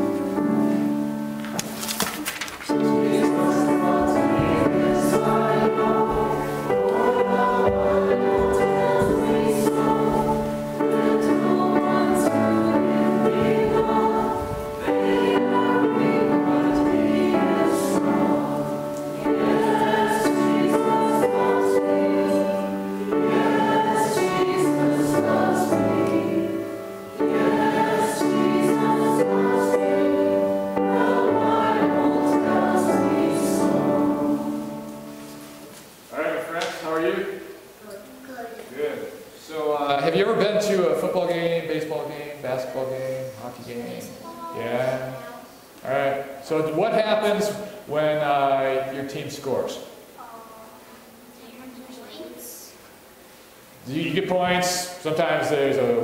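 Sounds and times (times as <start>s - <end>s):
church choir singing: 0.0s - 2.0s, 2.6s - 37.8s, 39.8s - 45.3s, 45.9s - 49.9s, 53.9s - 56.0s.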